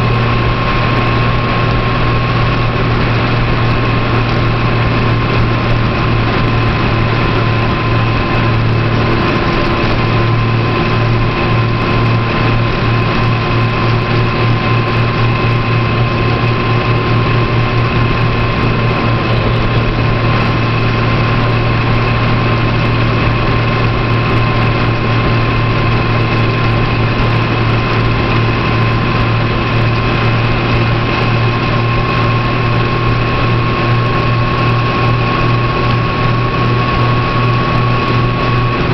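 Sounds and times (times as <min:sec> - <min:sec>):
high whine: 0:00.0 - 0:38.9
vehicle engine hum: 0:00.0 - 0:38.9.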